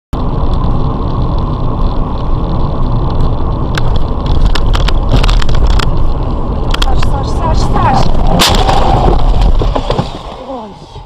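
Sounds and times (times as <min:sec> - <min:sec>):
car road and engine noise: 0:00.1 - 0:11.0.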